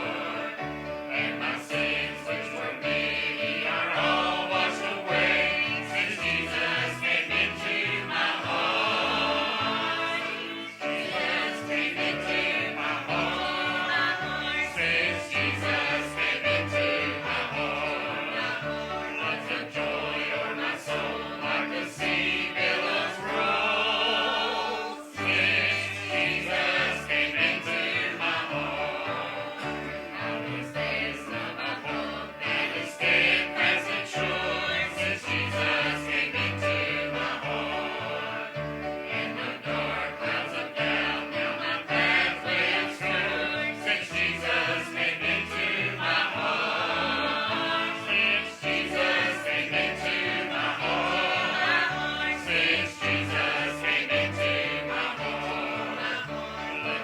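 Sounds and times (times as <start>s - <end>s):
choir singing a gospel hymn: 0.0s - 57.0s
instrumental accompaniment: 0.0s - 57.0s.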